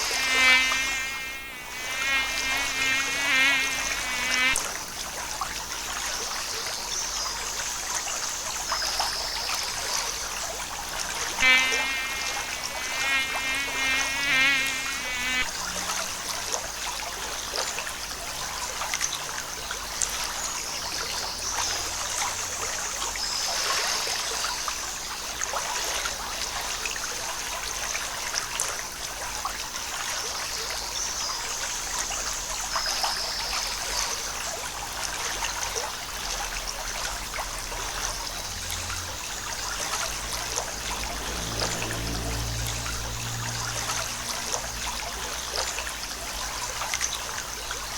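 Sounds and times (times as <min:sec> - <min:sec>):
insects buzzing: 0:00.0 - 0:47.9
stream trickling: 0:00.0 - 0:47.9.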